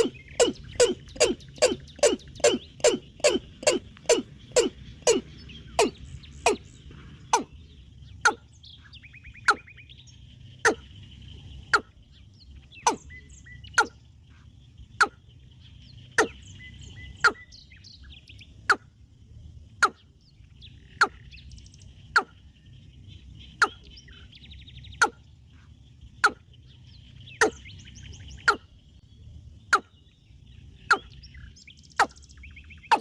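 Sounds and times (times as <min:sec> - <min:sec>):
faint chirps: 0:00.0 - 0:33.0.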